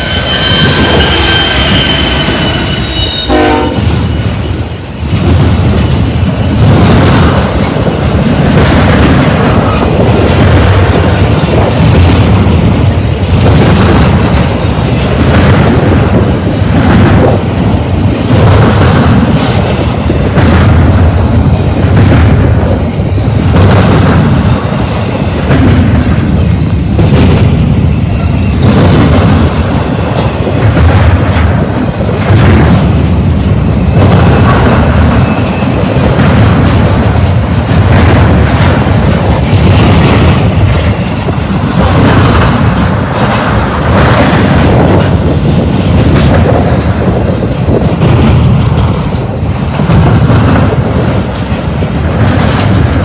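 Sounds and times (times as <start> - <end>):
freight train rumbling past: 0.0 - 53.0
steel wheels clattering on rails: 0.0 - 53.0.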